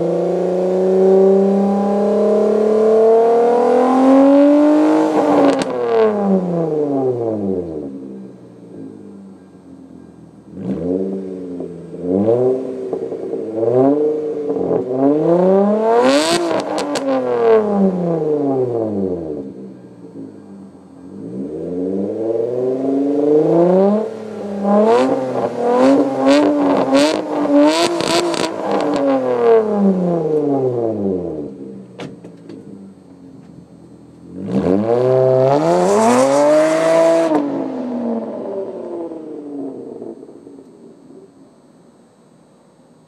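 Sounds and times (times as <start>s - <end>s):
car exhaust revving: 0.0s - 42.0s
exhaust crackles: 7.1s - 42.0s.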